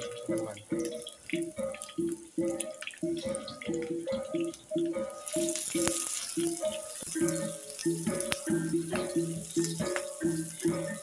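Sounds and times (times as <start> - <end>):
aromatics sizzling in hot oil: 0.0 - 11.0
rhythmic background music: 0.0 - 11.0
spatula tapping a wok: 0.0 - 11.0.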